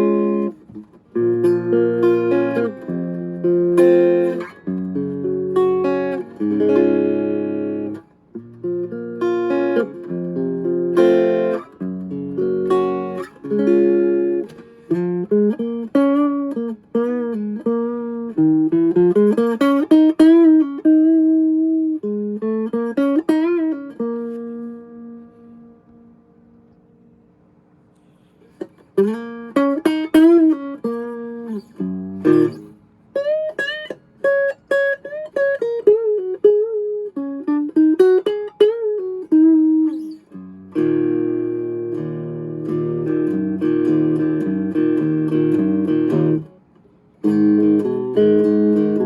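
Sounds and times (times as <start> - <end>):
clean electric guitar: 0.0 - 49.0.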